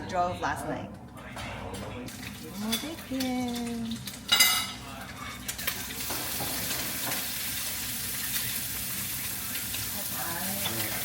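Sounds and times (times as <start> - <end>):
bacon sizzling: 2.1 - 11.0.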